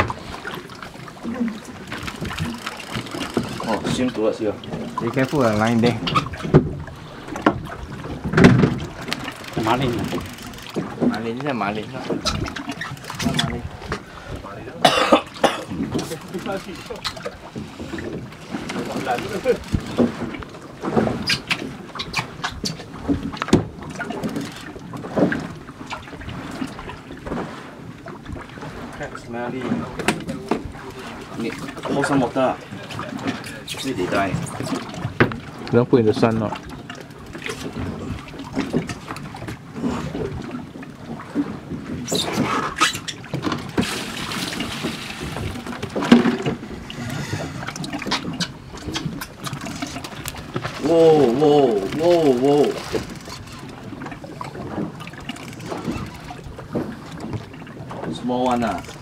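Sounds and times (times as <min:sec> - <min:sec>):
water splashing against boat hull: 0:00.0 - 0:59.0.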